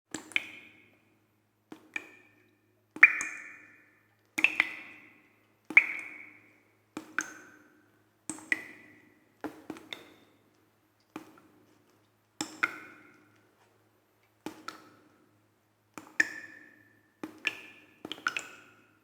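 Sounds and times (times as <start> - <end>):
water drops dripping: 0.1 - 1.1, 1.7 - 13.5, 14.2 - 15.2, 15.9 - 19.0.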